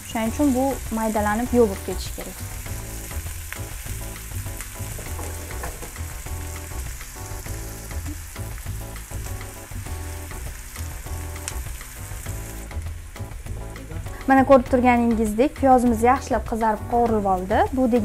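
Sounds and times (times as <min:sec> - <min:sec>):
onions sizzling in frying pan: 0:00.0 - 0:18.0.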